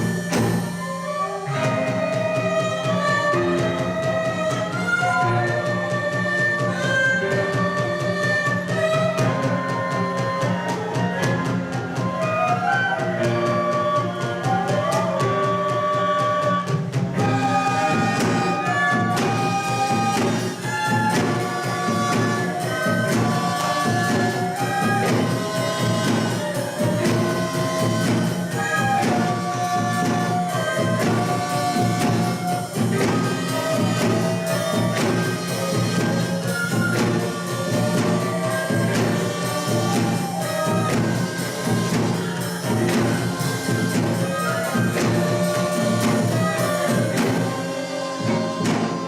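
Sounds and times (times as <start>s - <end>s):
steady percussion: 0.0s - 49.0s
traditional ensemble melody: 0.0s - 49.0s.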